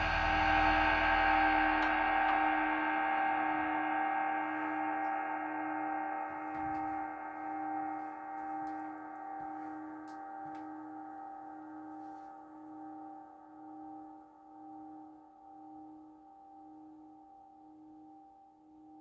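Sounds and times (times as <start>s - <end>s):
singing bowl ringing: 0.0s - 19.0s.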